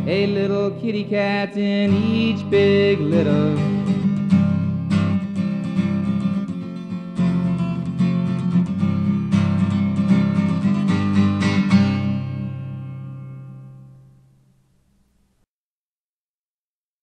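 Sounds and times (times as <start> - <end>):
acoustic guitar strumming: 0.0 - 15.4.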